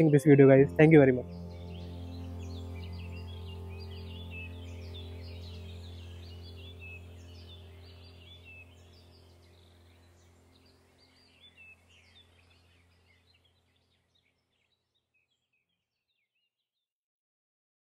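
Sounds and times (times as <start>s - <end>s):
steady low hum: 0.0s - 14.5s
small birds chirping: 0.0s - 16.6s.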